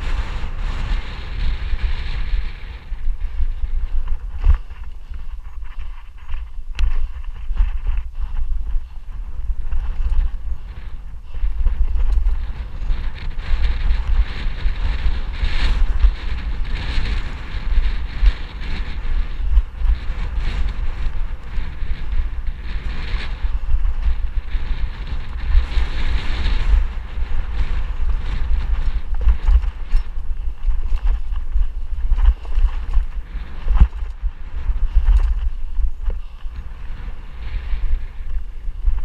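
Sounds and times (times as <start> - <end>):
bike rattling over rock: 0.0 - 39.0
wind buffeting microphone: 0.0 - 39.0.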